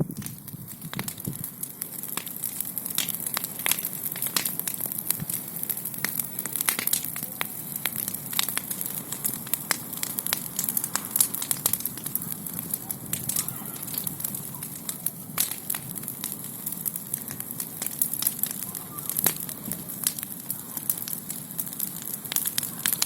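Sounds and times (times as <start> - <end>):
bonfire crackling and popping: 0.0 - 23.0
hiss of flames: 0.0 - 23.0.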